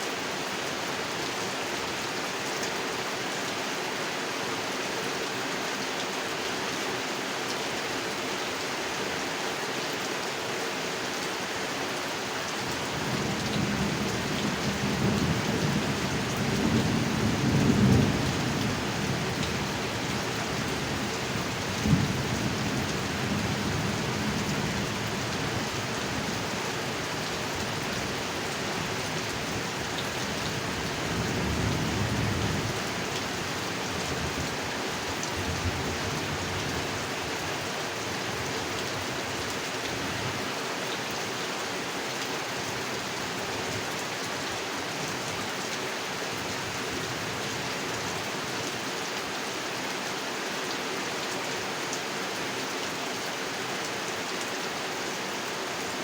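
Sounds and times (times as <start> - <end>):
heavy rain falling on a pond: 0.0 - 56.0.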